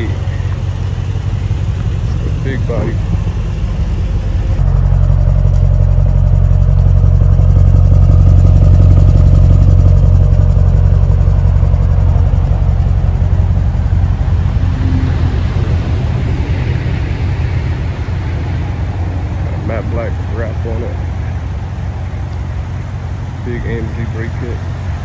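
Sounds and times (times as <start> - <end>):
car exhaust idling: 0.0 - 25.0.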